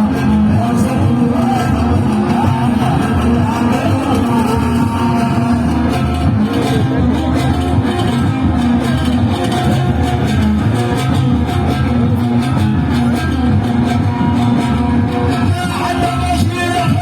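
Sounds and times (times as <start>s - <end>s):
instrumental music with plucked strings: 0.0s - 17.0s.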